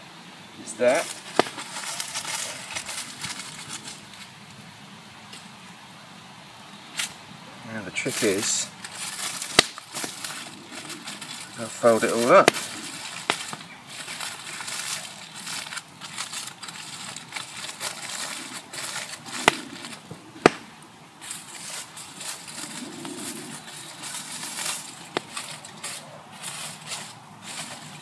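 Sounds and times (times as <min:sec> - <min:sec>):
aluminium foil crinkling: 0:00.6 - 0:04.3, 0:07.9 - 0:28.0
campfire wood popping: 0:00.6 - 0:05.6, 0:07.8 - 0:28.0.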